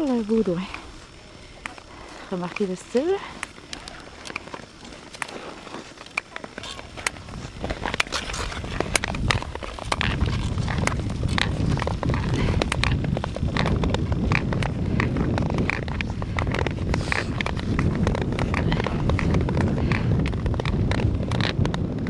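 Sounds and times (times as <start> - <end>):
wind rumble on microphone: 0.0 - 22.0
ice skate blades scraping ice: 0.9 - 22.0.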